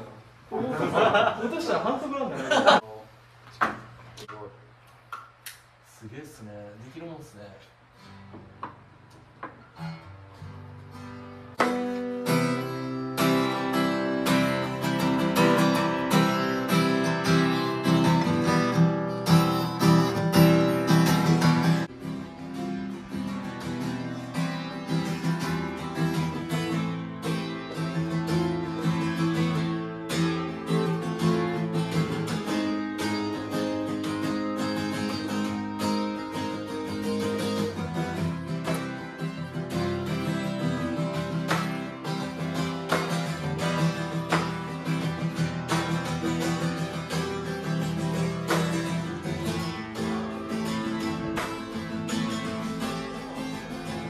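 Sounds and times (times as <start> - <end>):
acoustic guitar strumming: 7.9 - 54.0.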